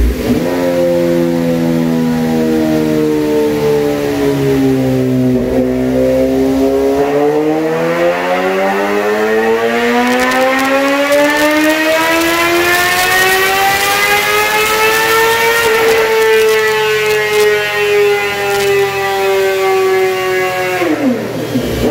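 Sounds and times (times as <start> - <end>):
motorcycle engine revving under load: 0.0 - 21.9.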